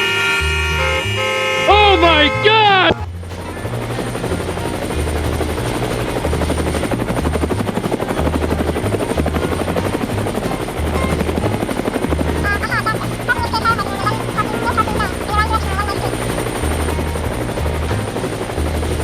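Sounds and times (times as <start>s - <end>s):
fast mechanical pulsing: 0.0s - 19.0s
low bass line: 0.0s - 19.0s.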